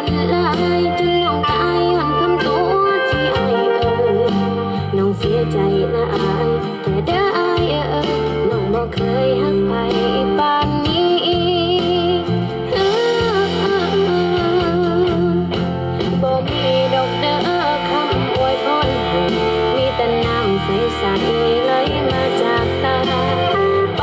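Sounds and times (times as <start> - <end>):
song with guitar: 0.0 - 24.0
steady bass notes: 0.0 - 24.0
wavering lead melody: 0.0 - 24.0.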